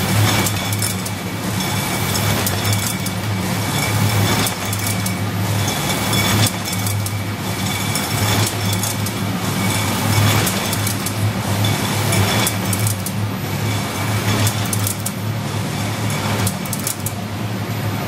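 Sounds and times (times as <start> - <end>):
chains and mechanism clattering: 0.0 - 17.2
machine drives humming: 0.0 - 18.0.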